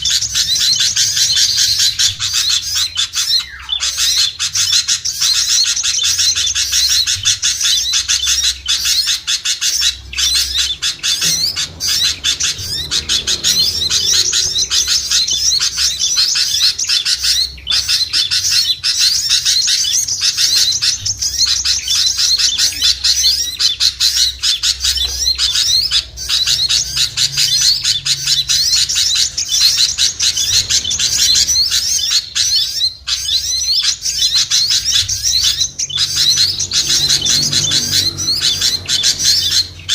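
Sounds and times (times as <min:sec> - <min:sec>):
chorus of songbirds chirping: 0:00.0 - 0:39.9.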